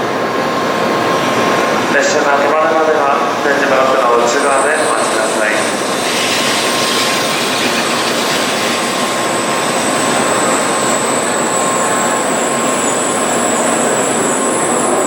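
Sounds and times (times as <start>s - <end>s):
high-speed train rushing: 0.0s - 15.0s.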